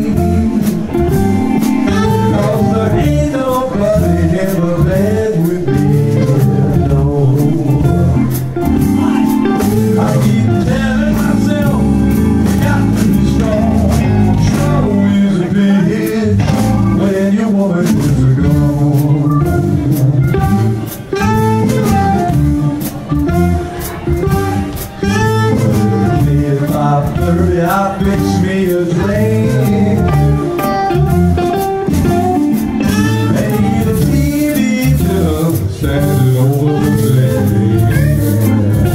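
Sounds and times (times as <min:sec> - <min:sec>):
live blues band playing: 0:00.0 - 0:38.9.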